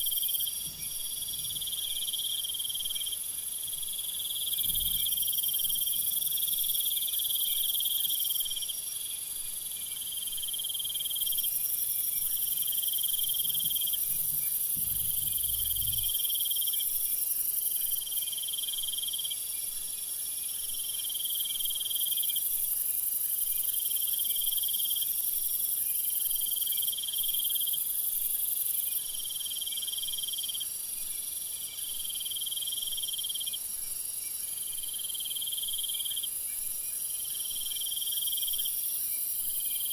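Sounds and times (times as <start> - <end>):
high-pitched insect hiss: 0.0 - 39.9
insect trill: 0.0 - 39.9.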